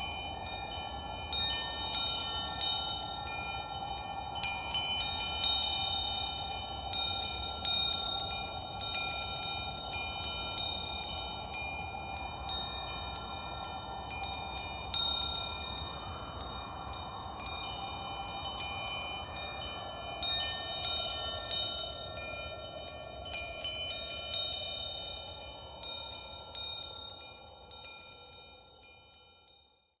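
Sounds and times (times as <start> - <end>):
wind chimes ringing: 0.0 - 30.0.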